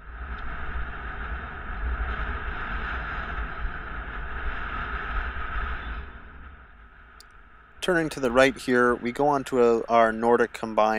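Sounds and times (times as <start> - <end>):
road noise hiss: 0.0 - 10.9
wind buffeting microphone: 0.0 - 10.9.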